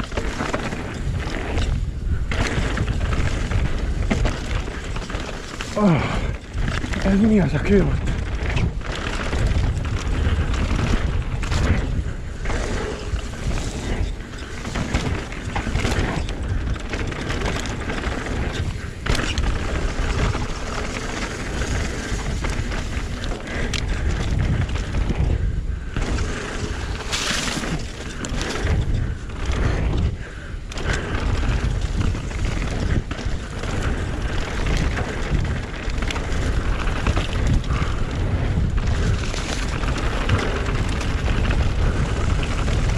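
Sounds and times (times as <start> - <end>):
tyres on dirt and leaves: 0.0 - 25.2, 26.0 - 42.9
bike knocking and rattling: 0.0 - 42.9
wind noise on microphone: 0.0 - 42.9.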